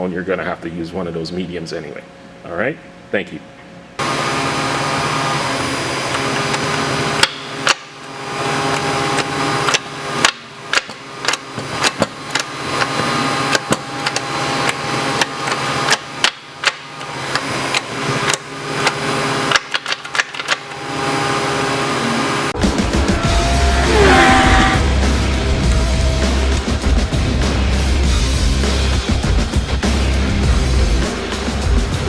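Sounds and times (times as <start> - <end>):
steady mechanical hum: 0.0 - 30.6.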